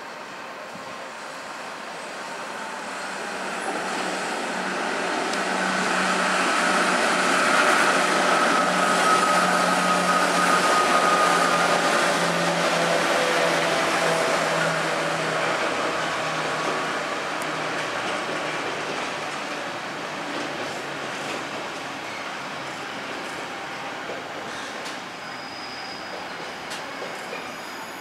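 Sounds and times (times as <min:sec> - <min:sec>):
locomotive high whine: 0:00.0 - 0:28.0
wheels rushing on rail: 0:00.0 - 0:28.0.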